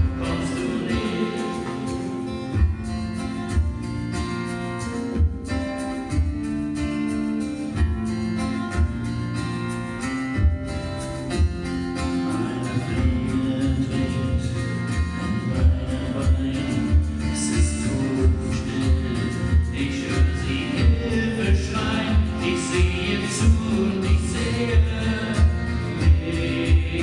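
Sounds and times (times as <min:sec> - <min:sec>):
acoustic guitars strumming chords: 0:00.0 - 0:27.0.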